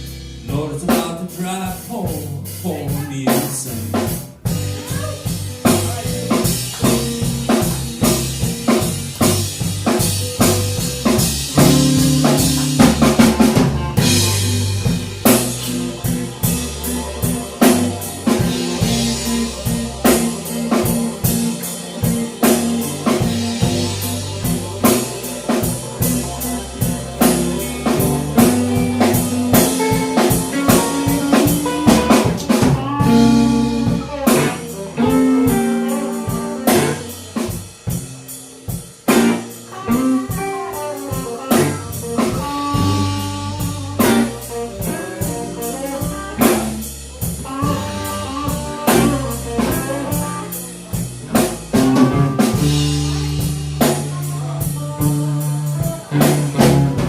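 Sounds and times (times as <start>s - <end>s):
blues band playing: 0.0s - 57.0s
drum kit snare and bass drum: 0.0s - 57.0s
electric bass: 0.0s - 57.0s
electric guitar bending notes: 0.0s - 57.0s.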